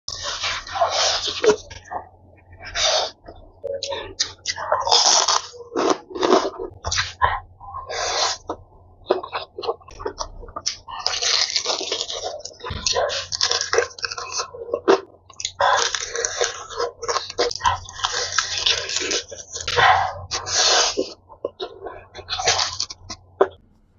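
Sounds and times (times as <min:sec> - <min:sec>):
slurping and chewing noodles: 0:00.1 - 0:23.7.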